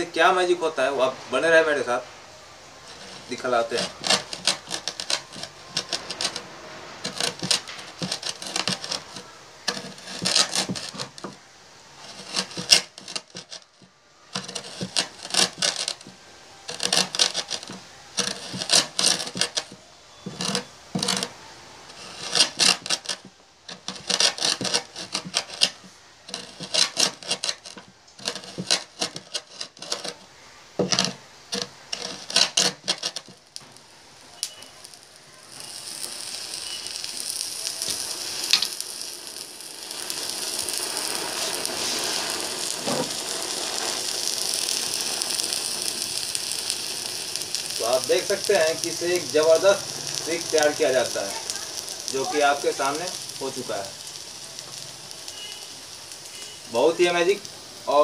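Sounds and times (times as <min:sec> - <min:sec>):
hammer grinding crystals on tabletop: 0:02.8 - 0:11.4, 0:12.0 - 0:58.0.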